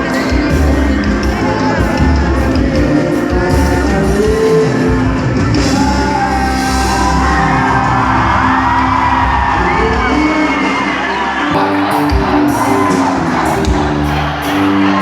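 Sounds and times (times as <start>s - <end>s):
person singing: 0.0s - 8.6s, 9.3s - 15.0s
steady drum beat: 0.0s - 10.7s, 11.6s - 15.0s
live band playing: 0.0s - 15.0s.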